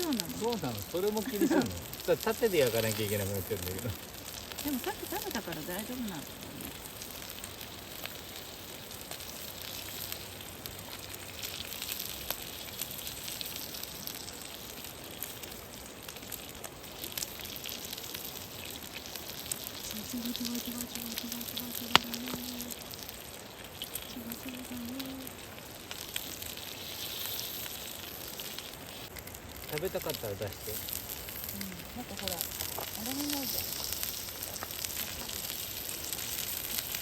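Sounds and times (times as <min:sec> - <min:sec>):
meat sizzling on a grill: 0:00.0 - 0:37.0
wood fire crackling: 0:00.0 - 0:37.0.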